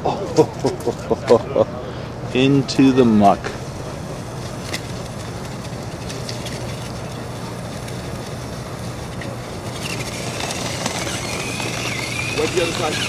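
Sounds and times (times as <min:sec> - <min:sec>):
low hum: 0:02.0 - 0:13.0.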